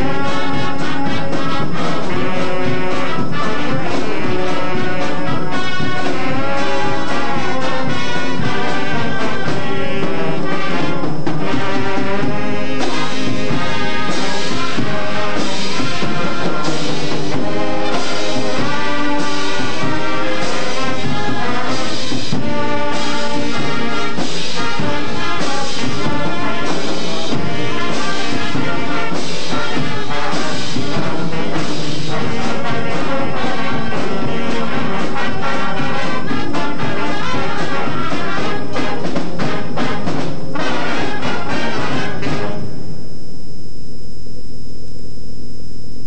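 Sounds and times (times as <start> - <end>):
trombones and trumpets: 0.0 - 43.1.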